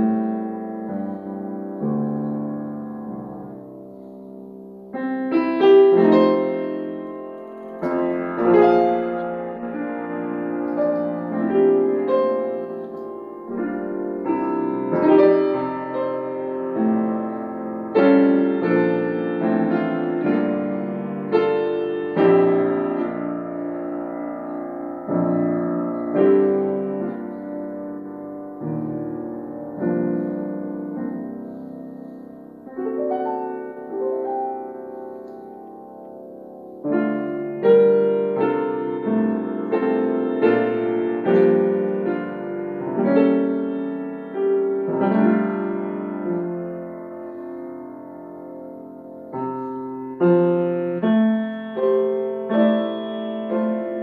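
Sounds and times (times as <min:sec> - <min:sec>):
solo piano chords: 0:00.0 - 0:54.0.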